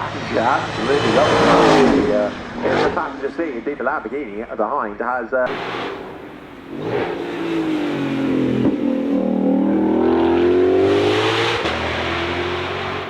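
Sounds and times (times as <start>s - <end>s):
car engine accelerating: 0.0s - 4.0s, 5.5s - 13.0s.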